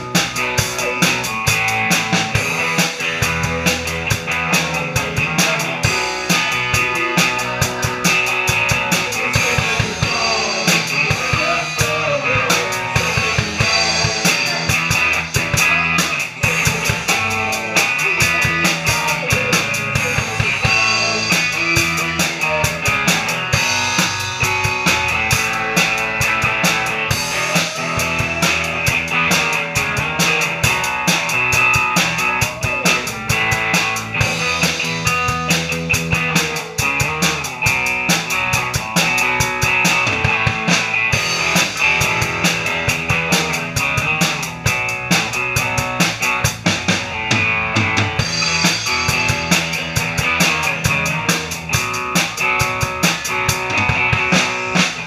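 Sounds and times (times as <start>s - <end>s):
amplified electric guitars: 0.0s - 55.0s
drum kit beat: 0.0s - 55.0s.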